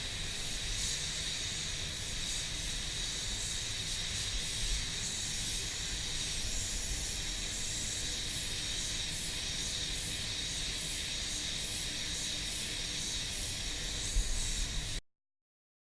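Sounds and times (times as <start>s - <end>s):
compressed air hissing: 0.0s - 15.0s.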